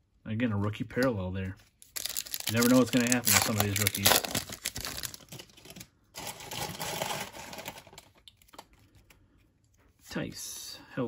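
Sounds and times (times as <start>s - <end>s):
cards rustling against each other: 1.0s - 10.0s.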